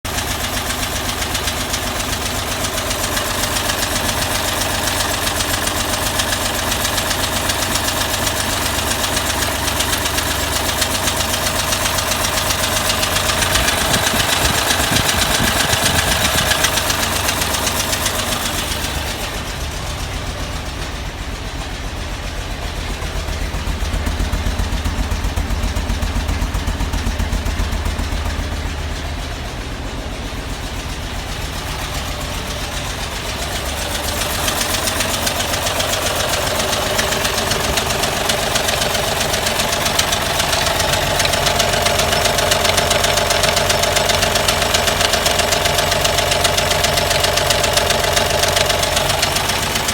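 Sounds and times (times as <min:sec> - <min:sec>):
engine running with rapid ticking: 0:00.0 - 0:49.9.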